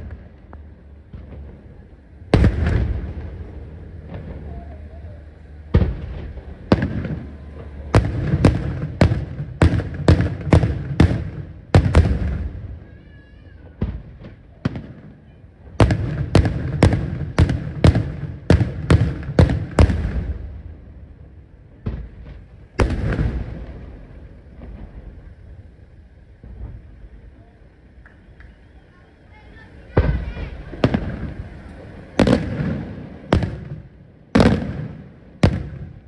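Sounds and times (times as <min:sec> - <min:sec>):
fireworks bursting in sharp bangs: 0:00.0 - 0:36.0.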